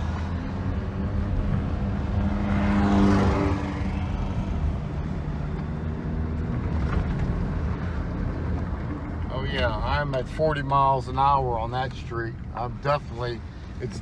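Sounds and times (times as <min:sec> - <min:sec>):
car engine running: 0:00.0 - 0:14.0
road noise inside car: 0:00.0 - 0:14.0.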